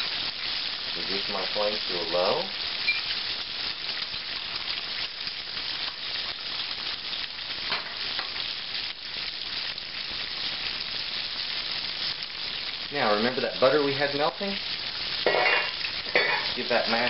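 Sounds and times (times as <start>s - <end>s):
steak sizzling in oil: 0.0s - 17.0s.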